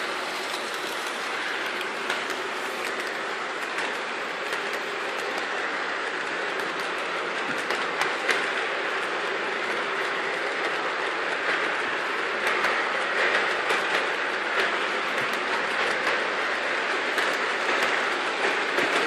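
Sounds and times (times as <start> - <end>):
model train wheels rumbling on rails: 0.0 - 19.0
wheels clicking over rail joints: 0.0 - 19.0.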